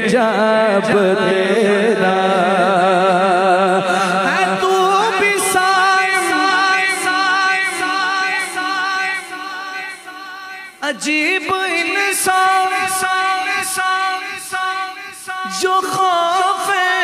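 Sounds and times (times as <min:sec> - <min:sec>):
man singing long vibrato notes: 0:00.0 - 0:17.0.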